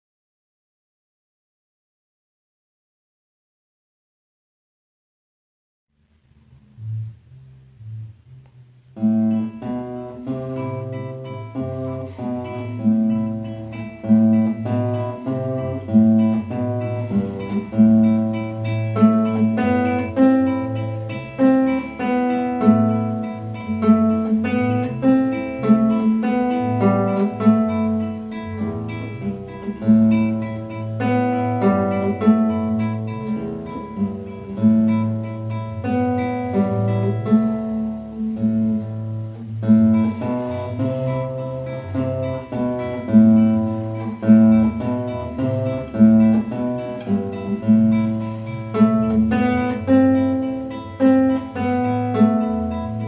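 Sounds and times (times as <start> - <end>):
classical acoustic guitar: 6.0 - 53.0.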